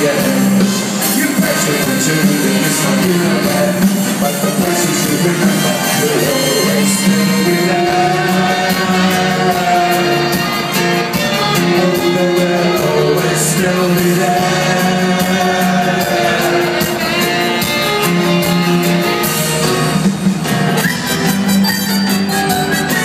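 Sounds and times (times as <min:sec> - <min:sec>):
live ska-pop band playing: 0:00.0 - 0:23.0.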